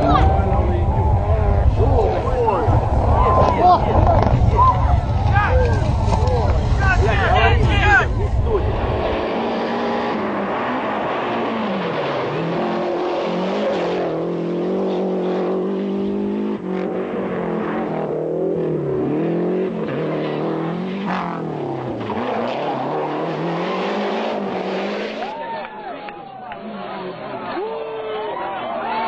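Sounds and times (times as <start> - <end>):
rally car engine revving: 0.0 - 25.4.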